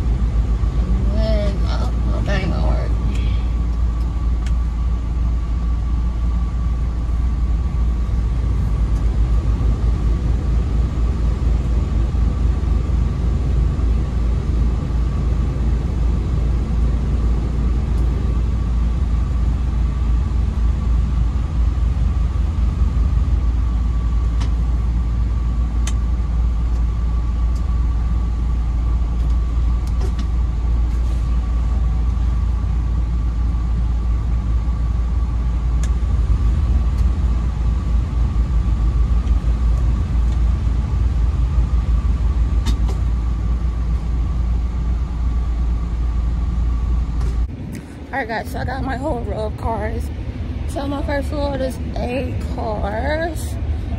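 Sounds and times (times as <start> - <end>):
diesel truck engine rumbling: 0.0 - 53.9
thin high hum: 0.0 - 53.9.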